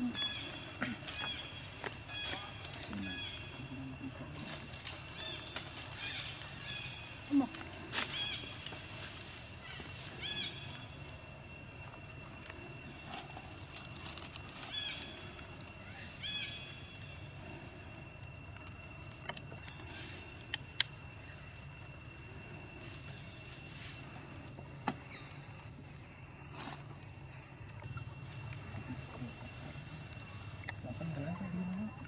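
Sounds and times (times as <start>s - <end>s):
high whine: 0.0s - 32.0s.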